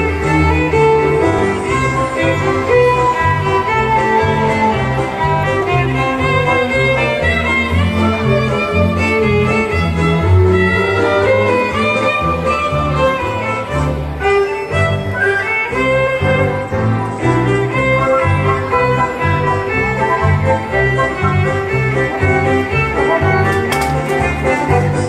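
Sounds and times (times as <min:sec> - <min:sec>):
violin melody: 0:00.0 - 0:25.0.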